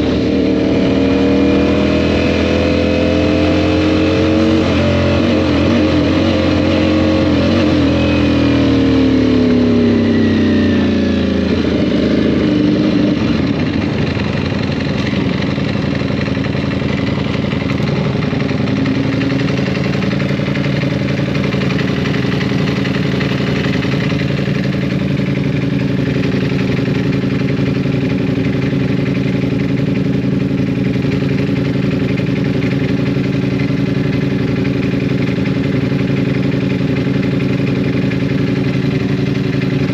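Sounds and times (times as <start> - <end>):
motorcycle engine slowing: 0.0 - 39.9.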